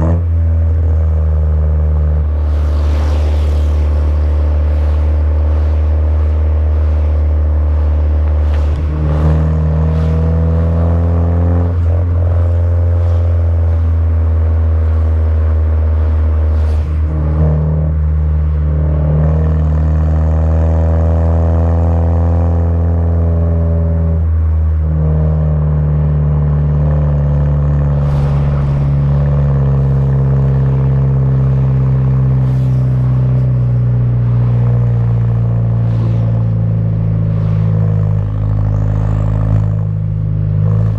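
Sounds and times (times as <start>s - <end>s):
car engine deep exhaust note: 0.0s - 40.9s.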